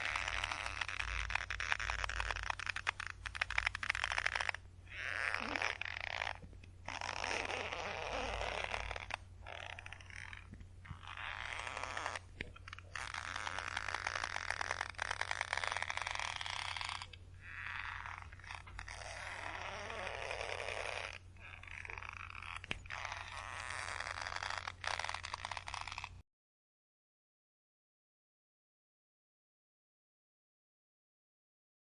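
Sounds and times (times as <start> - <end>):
rope creaking under tension: 0.0 - 26.2.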